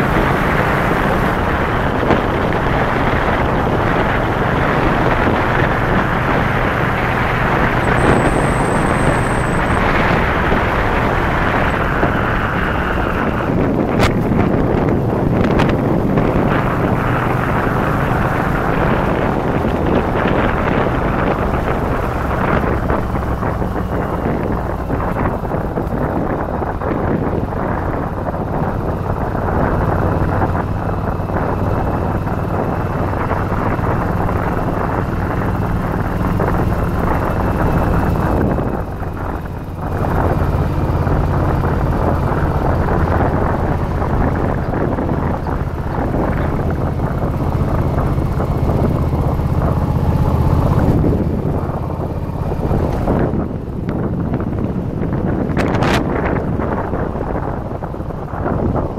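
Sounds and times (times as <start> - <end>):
motorcycle engine running: 0.0 - 58.9
wind rush on microphone: 0.0 - 58.9.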